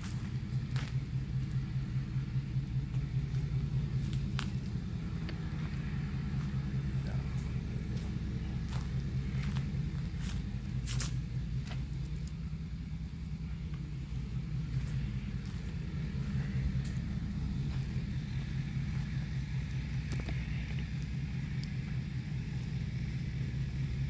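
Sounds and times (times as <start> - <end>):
machinery rumbling: 0.0 - 24.0.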